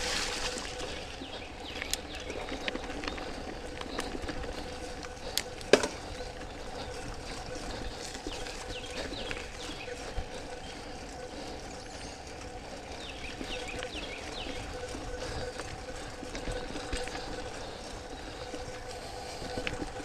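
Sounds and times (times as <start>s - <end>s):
bike tyre and wind rumble: 0.0s - 20.0s
birds chirping: 0.0s - 20.0s
steady hum: 0.0s - 20.0s.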